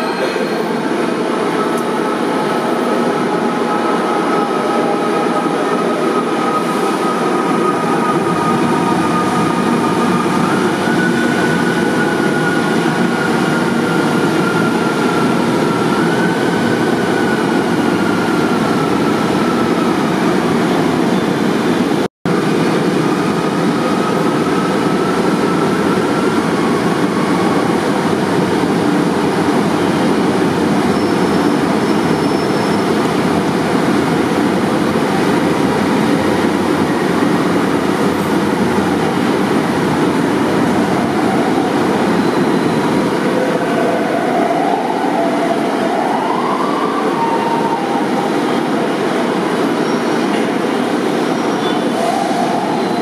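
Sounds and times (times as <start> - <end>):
high train whine: 0.0 - 53.0.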